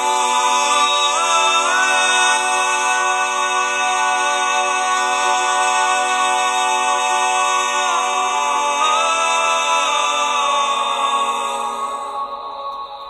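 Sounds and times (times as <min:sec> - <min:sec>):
a cappella voices singing chords: 0:00.0 - 0:13.0.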